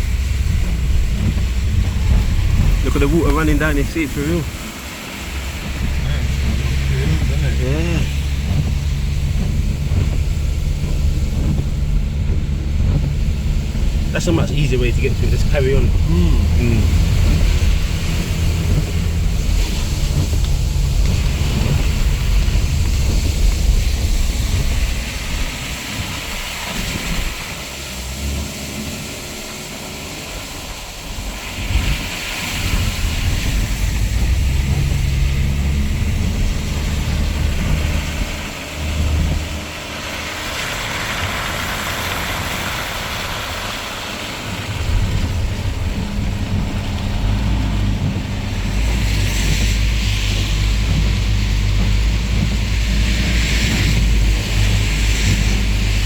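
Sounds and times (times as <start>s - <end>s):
car engine and road rumble: 0.0s - 56.0s
tyres hissing on wet road: 0.0s - 56.0s.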